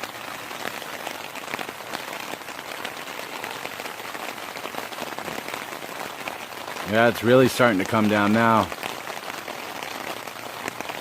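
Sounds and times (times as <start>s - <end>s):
heavy rain hiss: 0.0s - 11.0s
raindrops ticking: 0.0s - 11.0s.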